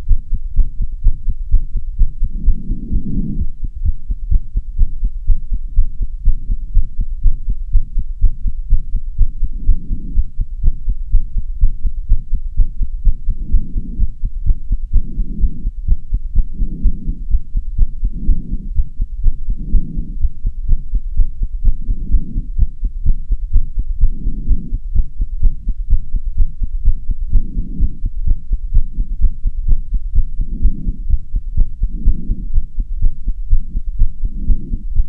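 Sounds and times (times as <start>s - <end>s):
fast heartbeat thumps: 0.0s - 35.0s.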